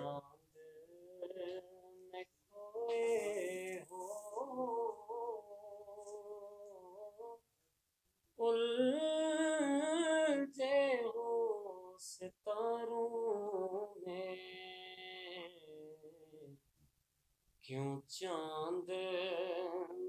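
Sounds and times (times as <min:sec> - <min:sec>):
man singing unaccompanied: 0:00.0 - 0:07.4, 0:08.4 - 0:16.6, 0:17.6 - 0:20.0.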